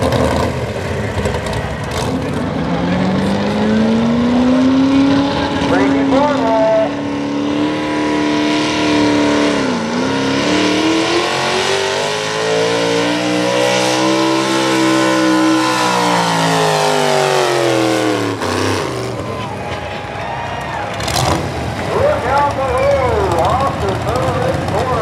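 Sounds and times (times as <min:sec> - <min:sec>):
tractor engine running hard: 0:00.0 - 0:25.0.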